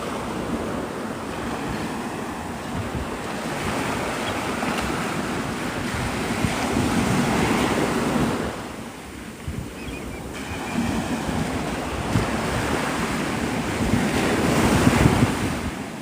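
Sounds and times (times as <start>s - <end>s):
surf washing up a beach: 0.0s - 16.0s
wind buffeting the microphone: 0.0s - 16.0s.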